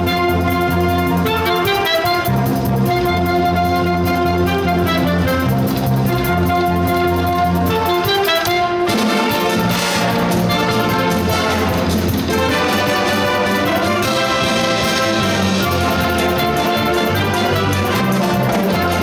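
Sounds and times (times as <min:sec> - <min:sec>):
wind band playing dance music: 0:00.0 - 0:19.0.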